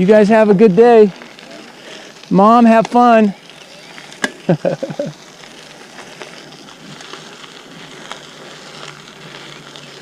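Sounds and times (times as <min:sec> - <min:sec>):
bike tyres crackling on gravel: 0:00.0 - 0:10.0.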